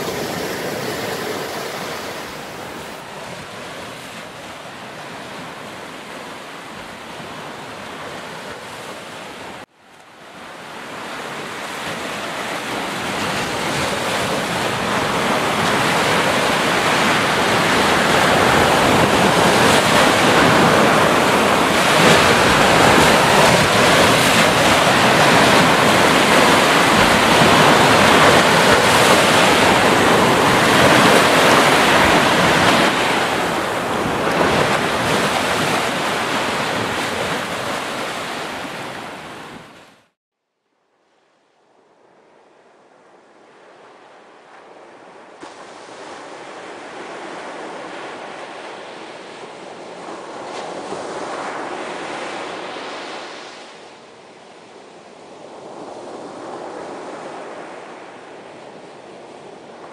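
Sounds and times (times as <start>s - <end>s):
sea waves breaking: 0.0s - 40.2s, 43.5s - 54.6s.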